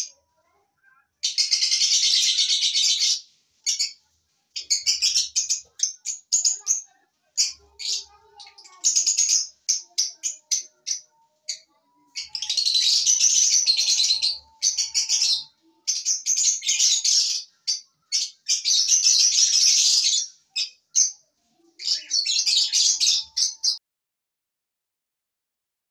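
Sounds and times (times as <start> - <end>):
lovebirds chirping shrilly: 1.2 - 4.0, 4.6 - 21.1, 21.8 - 23.8.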